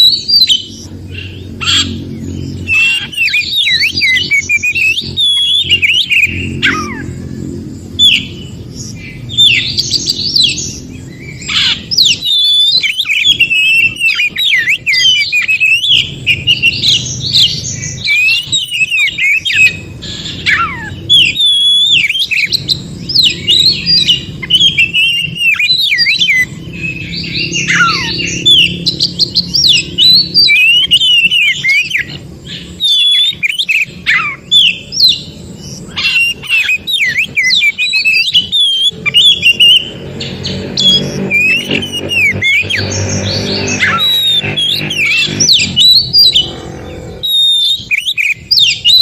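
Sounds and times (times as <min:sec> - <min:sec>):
bird singing whistles: 0:01.6 - 0:07.1, 0:08.0 - 0:46.6, 0:47.2 - 0:49.0.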